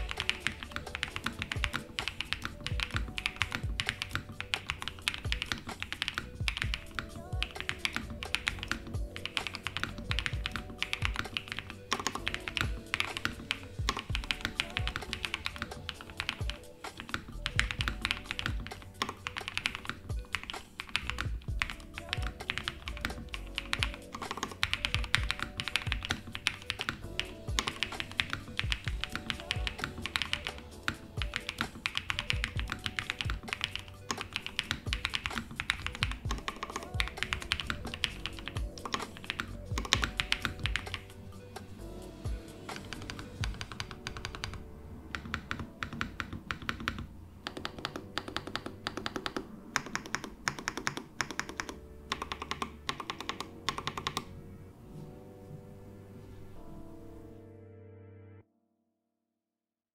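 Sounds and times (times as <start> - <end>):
mechanical keyboard typing: 0.0 - 41.2, 42.7 - 54.3
background music: 0.0 - 58.6.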